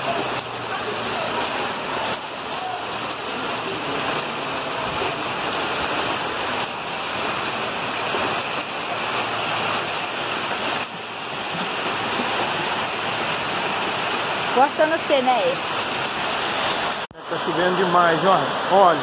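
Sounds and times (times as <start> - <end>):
floodwater rushing down street: 0.0 - 19.0
heavy rain: 0.0 - 19.0.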